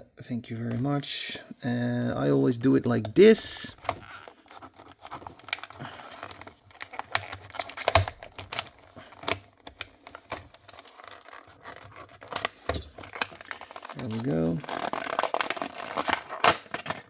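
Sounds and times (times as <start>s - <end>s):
plastic blister packaging crackling: 2.9s - 17.0s.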